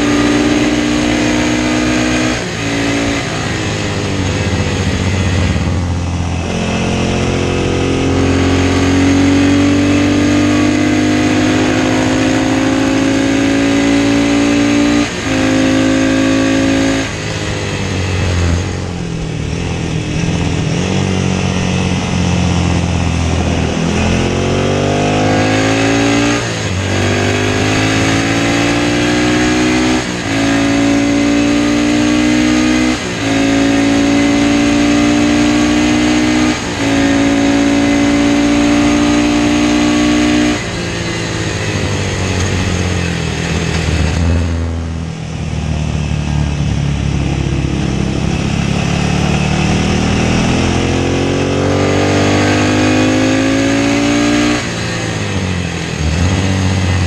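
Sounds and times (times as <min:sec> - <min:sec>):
racing motorcycle engine accelerating: 0:00.0 - 0:57.0.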